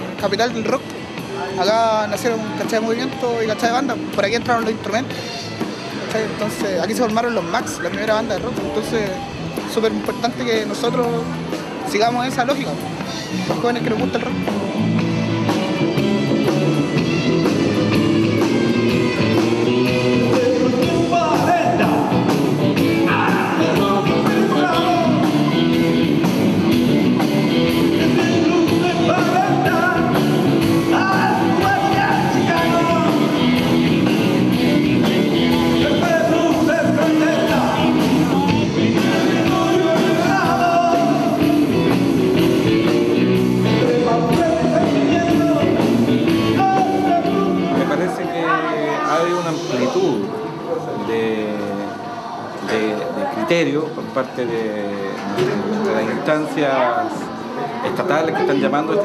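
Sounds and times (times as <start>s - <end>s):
rock song with singing: 0.0s - 50.7s.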